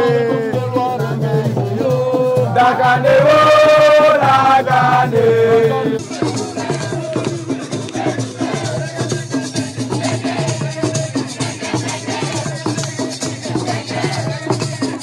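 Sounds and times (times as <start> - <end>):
music with low repeating beat: 0.0 - 15.0.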